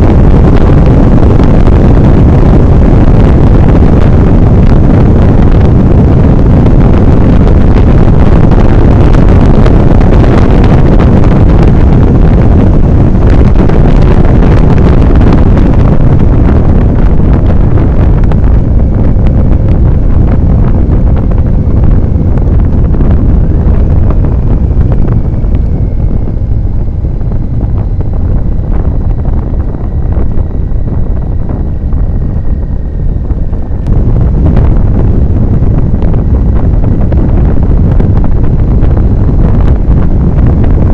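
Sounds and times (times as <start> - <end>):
heavy wind buffeting microphone: 0.0 - 40.9.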